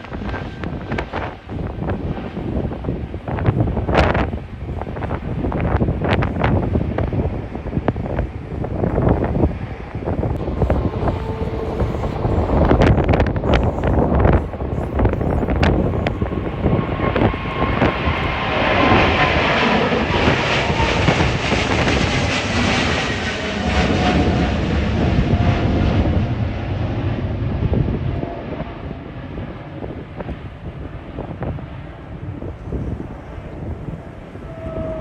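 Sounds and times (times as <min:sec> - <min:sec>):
jet engines roaring: 0:00.0 - 0:35.0
wind buffeting microphone: 0:00.0 - 0:35.0.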